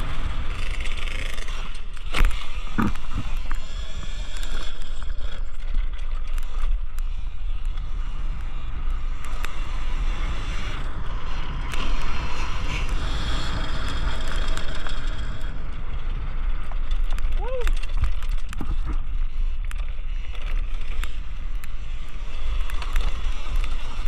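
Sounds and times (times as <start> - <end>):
electric dirt bike motor: 0.0 - 24.0
wind rumble on microphone: 0.0 - 24.0.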